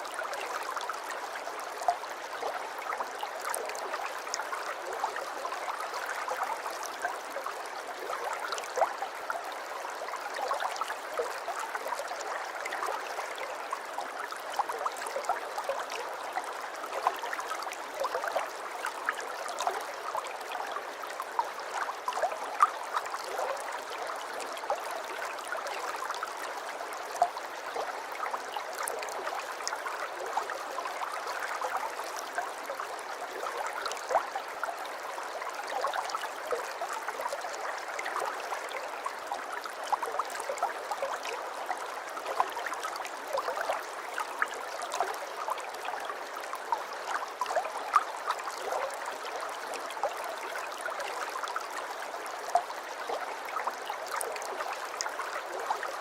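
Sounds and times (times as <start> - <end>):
aquarium water trickling and bubbling: 9.9 - 56.0.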